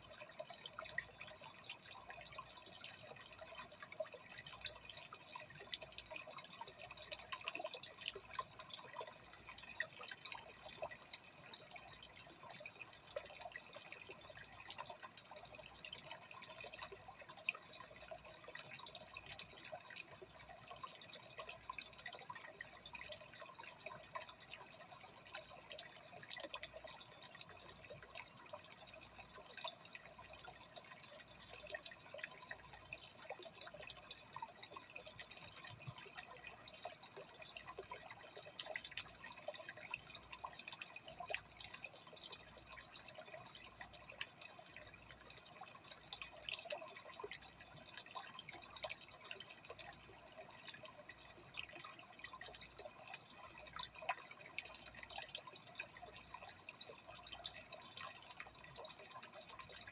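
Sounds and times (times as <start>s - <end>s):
aquarium water trickling and bubbling: 0.0s - 59.9s.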